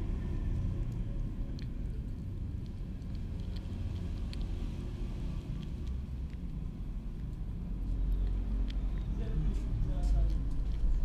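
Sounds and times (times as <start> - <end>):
kitten wet mouth clicks: 0.0 - 11.0
steady low rumble: 0.0 - 11.0.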